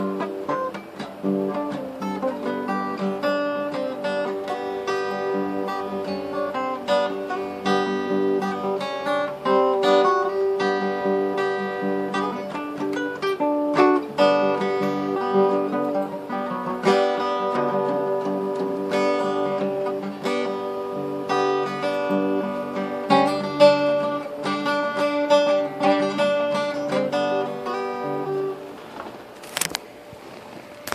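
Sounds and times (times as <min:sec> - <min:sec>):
fingerpicked acoustic guitar: 0:00.0 - 0:30.9.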